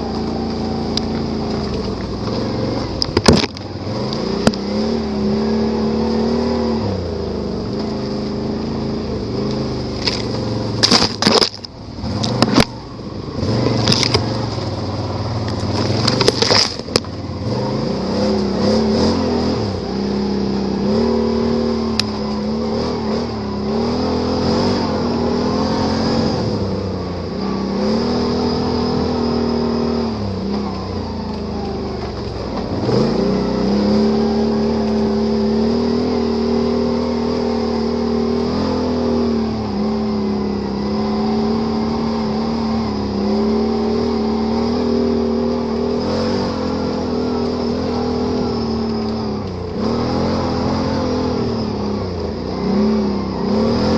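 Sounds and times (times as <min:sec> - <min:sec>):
atv engine revving: 0:00.0 - 0:53.9.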